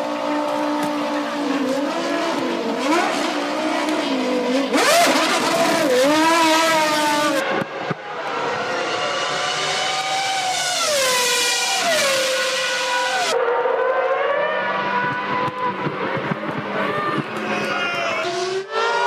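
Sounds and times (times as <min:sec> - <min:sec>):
racing car engine revving: 0:00.0 - 0:19.0.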